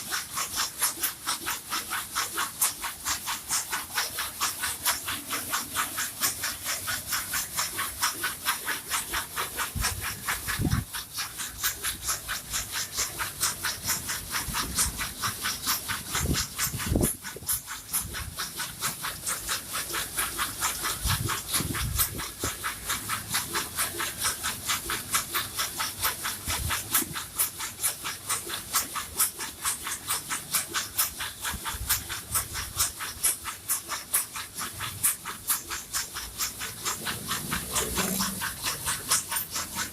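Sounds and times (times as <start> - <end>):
bamboo sticks rubbing hiss: 0.0 - 39.9.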